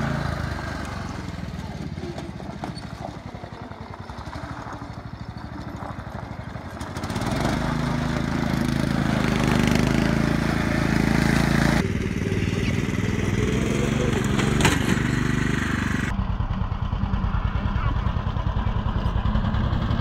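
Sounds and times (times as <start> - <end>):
lawn mower engine idling and revving: 0.0 - 20.0.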